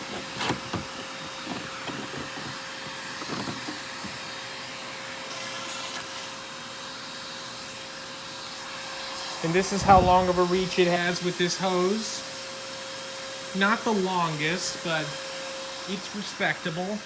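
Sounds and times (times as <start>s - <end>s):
vacuum cleaner motor running: 0.0s - 17.0s.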